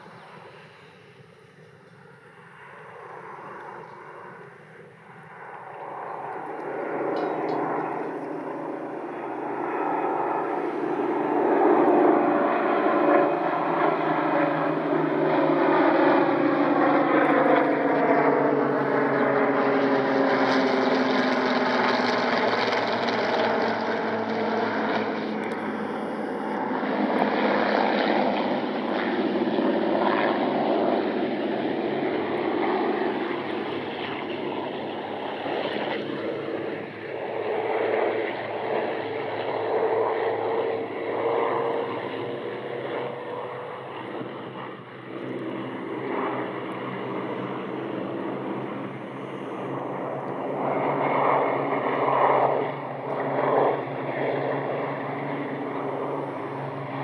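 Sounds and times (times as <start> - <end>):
propeller planes droning overhead: 0.0 - 57.0.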